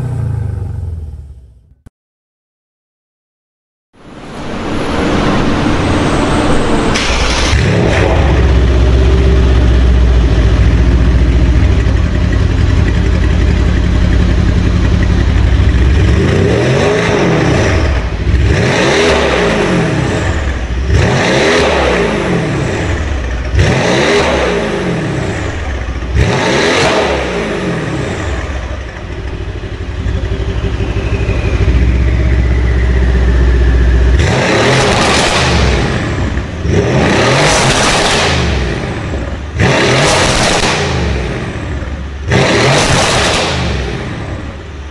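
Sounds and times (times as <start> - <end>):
car engine revving: 4.0 - 44.9
exhaust cracks: 5.6 - 24.3, 25.0 - 44.6.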